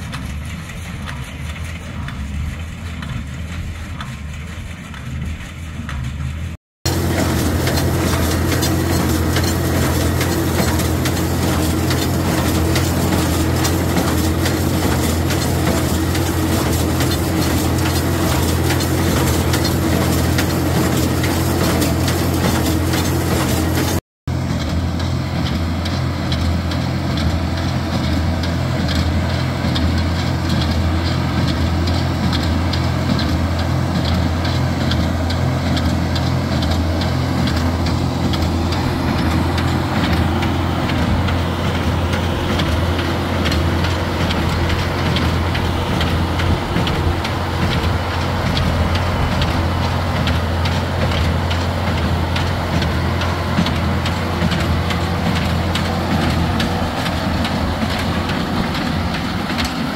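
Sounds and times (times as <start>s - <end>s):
baler mechanical clatter: 0.0s - 59.9s
tractor engine running: 0.0s - 59.9s.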